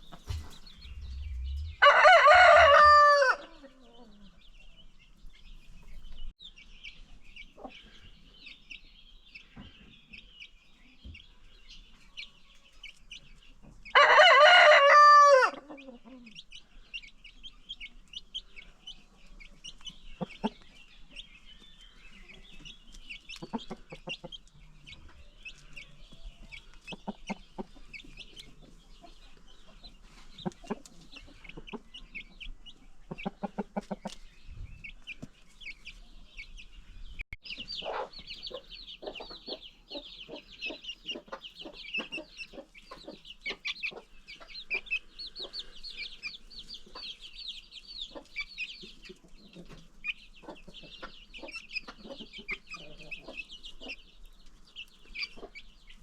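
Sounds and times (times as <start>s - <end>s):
hens clucking: 0.0s - 4.4s, 12.9s - 21.5s, 22.1s - 36.2s, 37.5s - 56.0s
chicks peeping: 0.0s - 56.0s.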